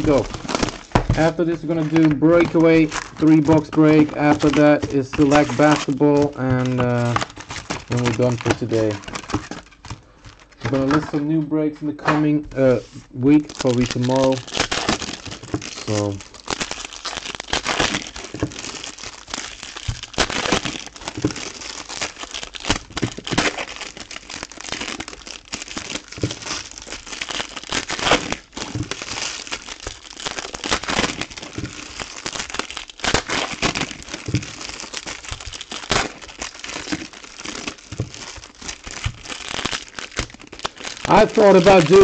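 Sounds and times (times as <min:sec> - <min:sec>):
foil wrappers crinkling: 0:00.0 - 0:42.0.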